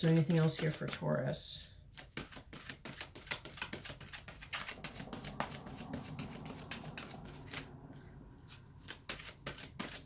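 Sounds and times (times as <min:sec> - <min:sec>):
cards being shuffled: 0:00.0 - 0:01.1, 0:01.9 - 0:07.8, 0:08.5 - 0:10.0.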